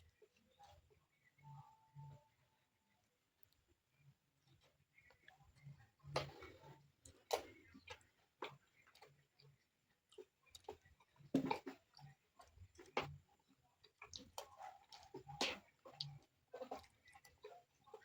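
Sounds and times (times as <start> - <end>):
soft chewing: 0.0 - 18.0.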